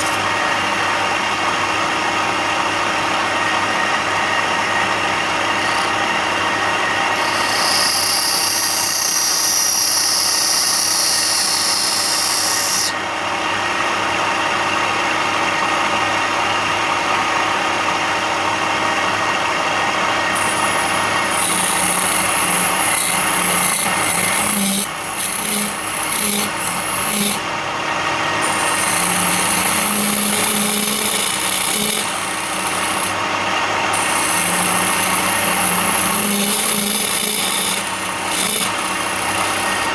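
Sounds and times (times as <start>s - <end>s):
power tool running: 0.0s - 39.9s.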